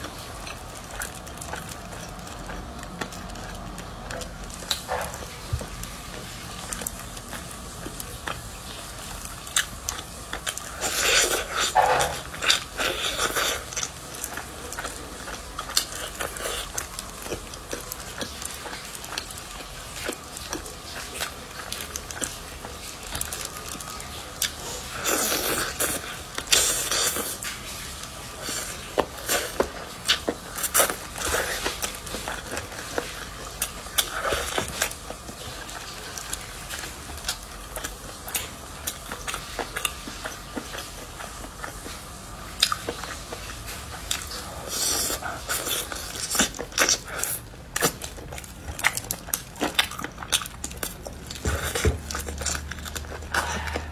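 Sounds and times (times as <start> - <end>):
chewing: 0.0 - 53.9.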